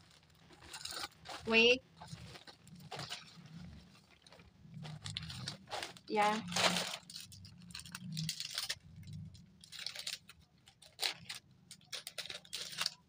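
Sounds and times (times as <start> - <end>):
plastic packet crinkling: 0.0 - 13.0.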